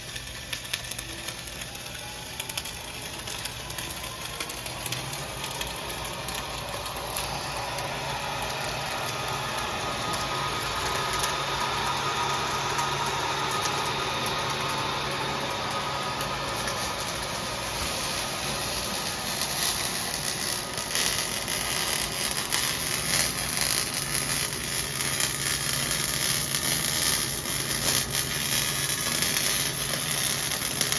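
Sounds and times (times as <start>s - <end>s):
welding arc crackling hiss: 0.0s - 30.9s.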